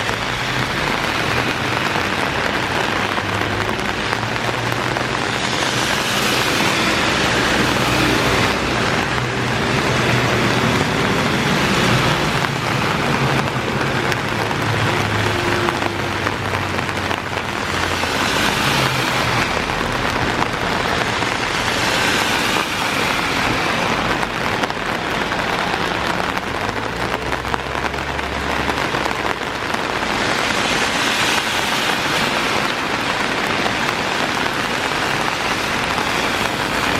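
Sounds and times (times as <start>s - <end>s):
cars passing on wet road: 0.0s - 36.9s
heavy rain pouring: 0.0s - 36.9s.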